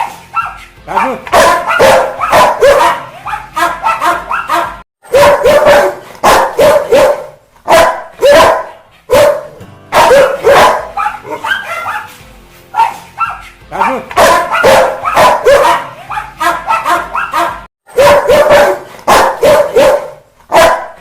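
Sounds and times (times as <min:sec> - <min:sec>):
dog barking angrily: 0:00.0 - 0:12.1, 0:12.8 - 0:21.0.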